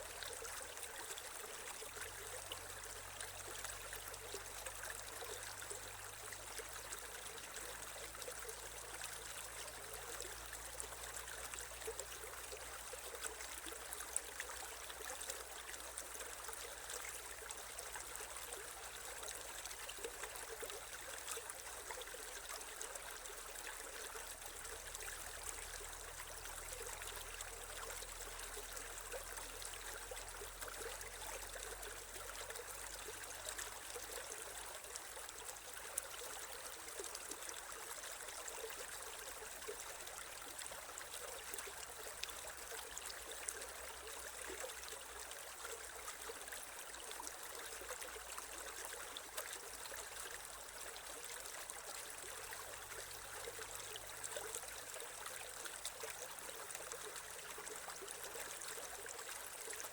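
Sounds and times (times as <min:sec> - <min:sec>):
creek water trickling over stones: 0:00.0 - 0:59.9.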